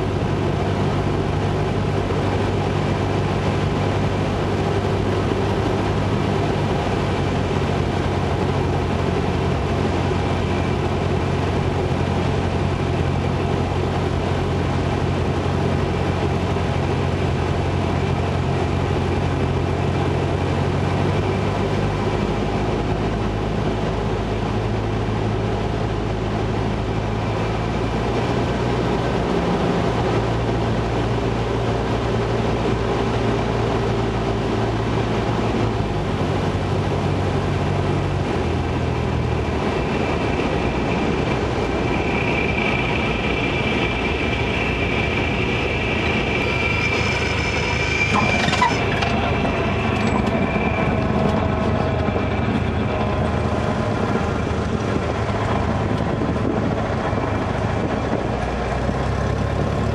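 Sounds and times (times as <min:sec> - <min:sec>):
piston engine and propeller running: 0:00.0 - 0:59.9.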